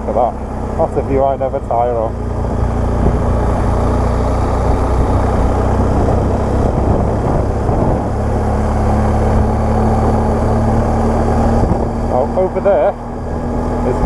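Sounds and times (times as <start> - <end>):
motorcycle engine running: 0.0 - 14.0
wind rumble on microphone: 0.8 - 14.0.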